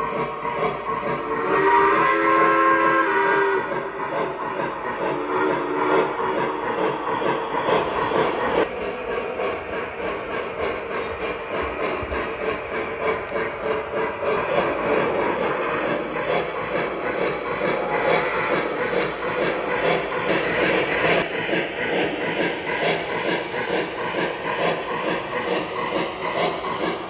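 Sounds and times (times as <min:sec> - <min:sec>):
model train steam and hiss effects: 0:00.0 - 0:27.0
wheels rumbling on track: 0:00.0 - 0:27.0.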